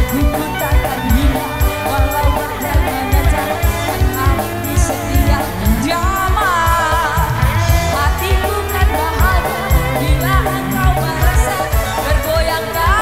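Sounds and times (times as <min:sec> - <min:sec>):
fast drum beat: 0:00.0 - 0:13.0
keyboard notes: 0:00.0 - 0:13.0
woman singing into microphone: 0:00.0 - 0:13.0.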